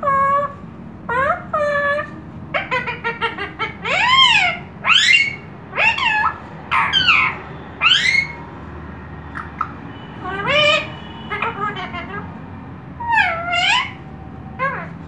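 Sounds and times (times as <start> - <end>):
parrot loud rising calls: 0.0 - 8.5, 9.3 - 12.2, 13.0 - 15.0
parrot chirps: 1.1 - 8.4, 9.3 - 12.3, 13.0 - 15.0.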